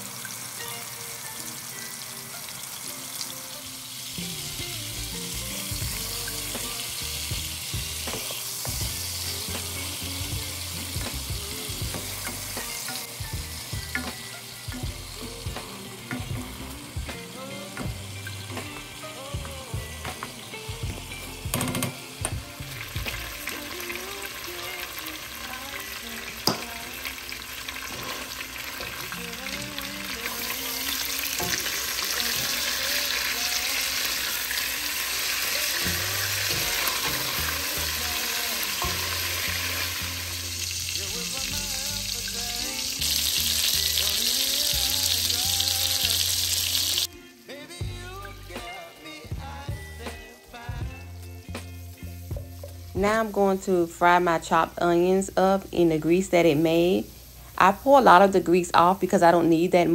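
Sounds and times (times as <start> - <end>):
patties sizzling in hot oil: 0.0 - 59.9.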